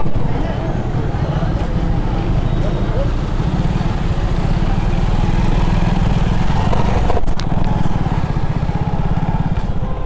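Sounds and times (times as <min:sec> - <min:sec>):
motorcycle engine running: 0:01.6 - 0:10.0.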